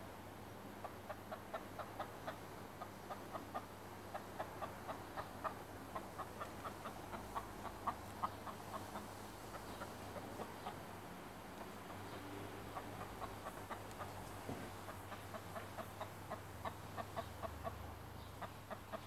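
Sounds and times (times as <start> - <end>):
chicken clucking: 0.8 - 19.0.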